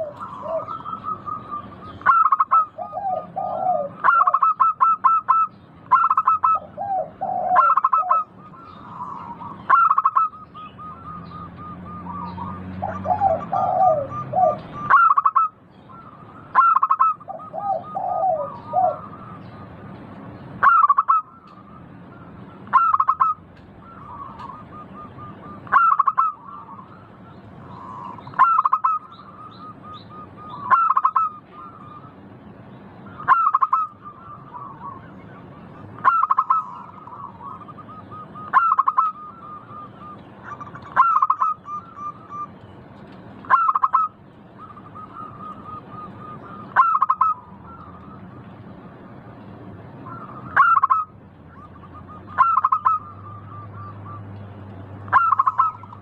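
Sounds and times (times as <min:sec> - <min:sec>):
dove cooing: 0:00.0 - 0:19.5, 0:20.6 - 0:32.2, 0:33.1 - 0:42.5, 0:43.4 - 0:48.3, 0:50.0 - 0:54.3, 0:55.1 - 0:56.0
soft low warbling calls: 0:00.0 - 0:56.0.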